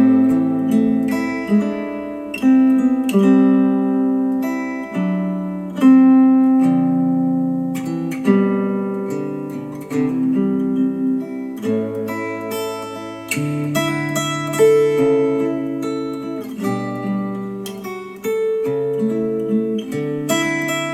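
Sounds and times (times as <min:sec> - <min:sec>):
acoustic guitar music: 0:00.0 - 0:20.9.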